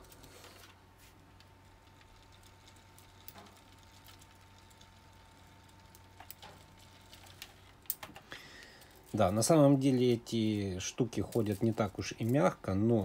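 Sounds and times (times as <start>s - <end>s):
electric fan hum: 0.0s - 13.0s.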